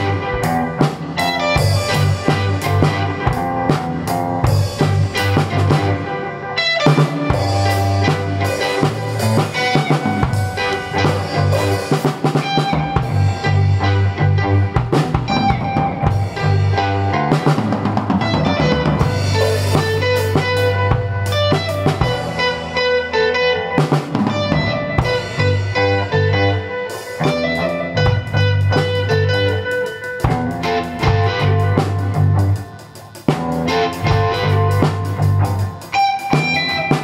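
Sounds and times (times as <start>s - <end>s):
bass guitar: 0.0s - 37.0s
drum kit: 0.0s - 37.0s
electric guitar: 0.0s - 37.0s.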